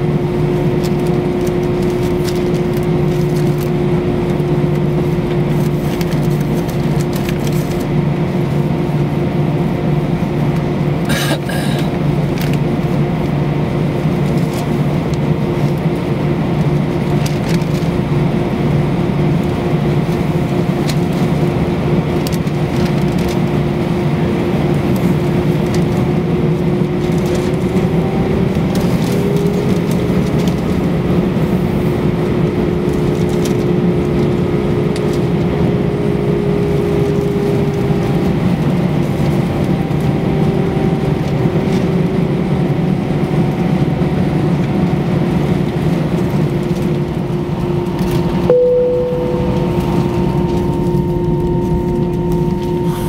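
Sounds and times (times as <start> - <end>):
jet engines humming inside cabin: 0.0 - 53.0.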